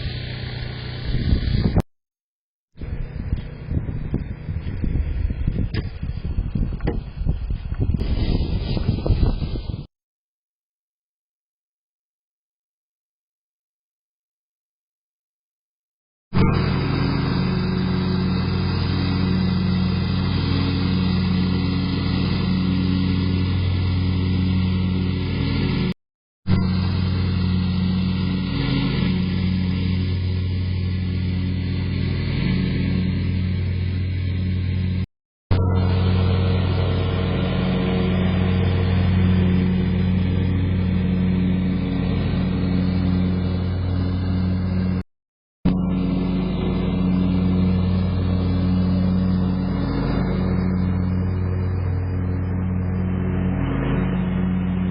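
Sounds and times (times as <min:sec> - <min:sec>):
engine running steadily: 0:00.0 - 0:01.8, 0:02.8 - 0:09.9, 0:16.4 - 0:25.9, 0:26.5 - 0:45.0, 0:45.7 - 0:54.9.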